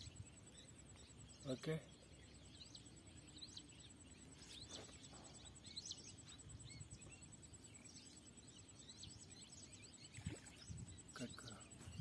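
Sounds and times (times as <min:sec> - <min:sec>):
faint birds chirping: 0:00.0 - 0:12.0
low outdoor hum: 0:00.0 - 0:12.0.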